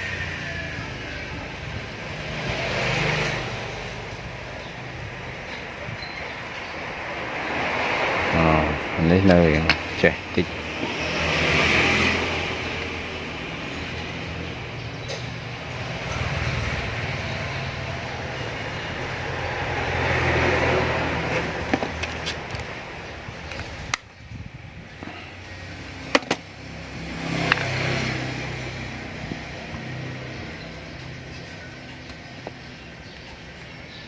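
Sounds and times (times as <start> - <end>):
passing motor vehicle engine: 0.0 - 34.0.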